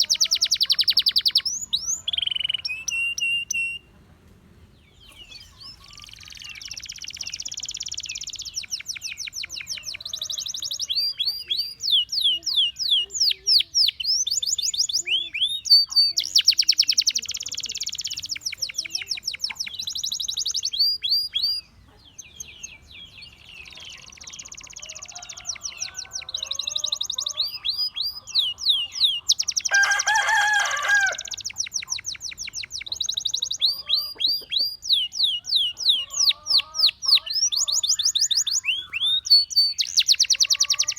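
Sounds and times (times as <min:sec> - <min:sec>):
canary singing trills: 0:00.0 - 0:03.9, 0:04.9 - 0:40.9.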